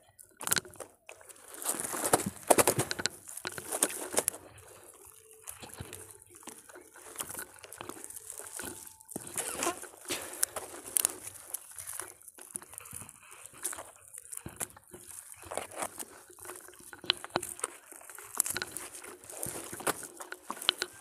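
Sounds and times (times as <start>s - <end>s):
fishing net rustling and scraping: 0.4s - 21.0s.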